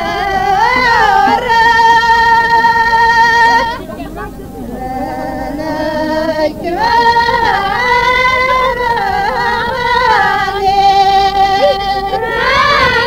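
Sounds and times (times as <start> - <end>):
voices singing long wavering notes: 0.0 - 13.0.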